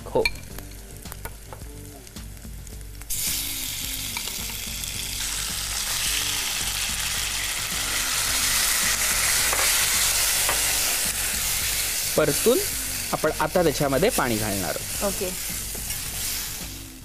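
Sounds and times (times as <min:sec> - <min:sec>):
lentils sizzling in hot oil: 0:00.1 - 0:17.0.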